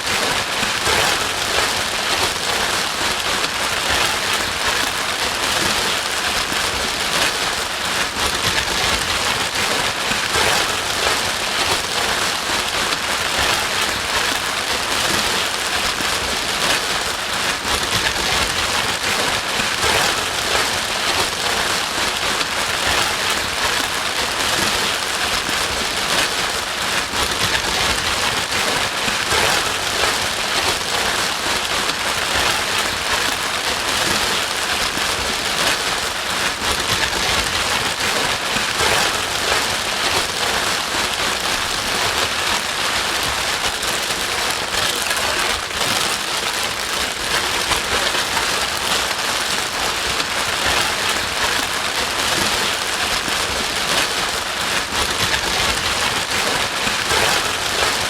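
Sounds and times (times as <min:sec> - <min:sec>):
rain-like white noise: 0:00.0 - 0:58.0.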